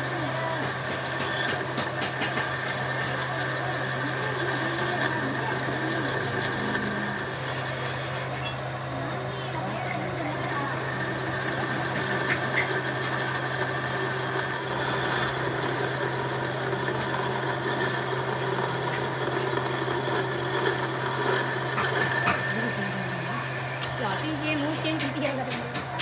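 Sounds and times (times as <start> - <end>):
boring tool cutting metal: 0.0 - 26.0
lathe motor hum: 0.0 - 26.0.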